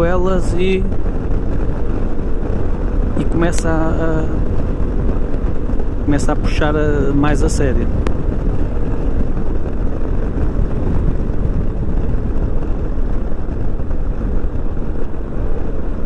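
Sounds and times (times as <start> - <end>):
rushing wind noise: 0.0 - 16.0
scooter engine droning: 0.0 - 16.0.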